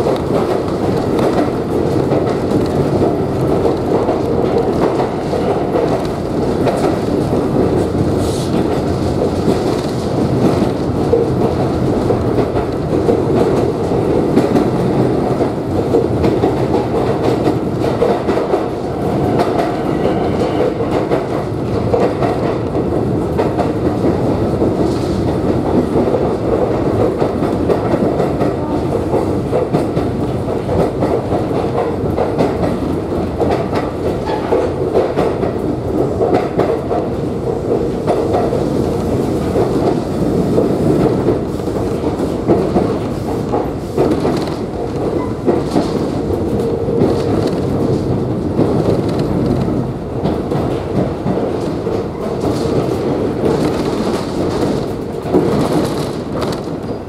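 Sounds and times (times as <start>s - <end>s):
clicks of wheels over rail joints: 0.0s - 57.0s
train wheels on rails: 0.0s - 57.0s.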